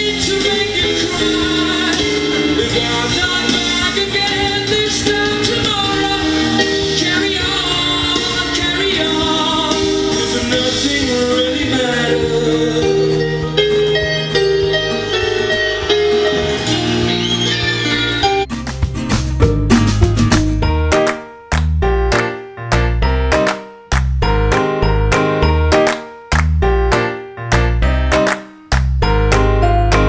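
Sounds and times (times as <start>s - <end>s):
song played from vinyl record: 0.0s - 30.0s.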